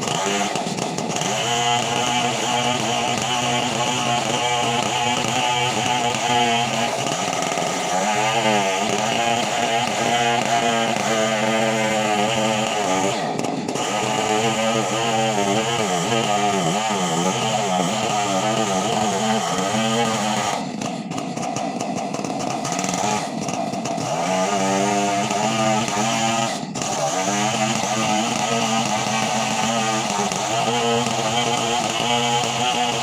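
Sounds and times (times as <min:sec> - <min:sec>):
chainsaw engine running hard: 0:00.0 - 0:33.0.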